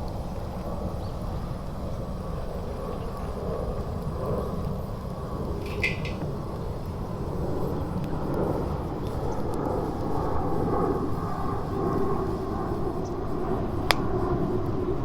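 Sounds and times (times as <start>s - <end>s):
wood fire rumbling: 0.0s - 14.0s
burning wood cracking: 0.0s - 14.8s.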